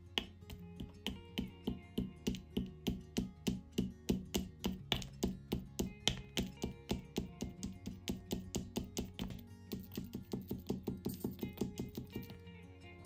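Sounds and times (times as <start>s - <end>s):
stone pestle pounding in mortar: 0.2s - 12.4s.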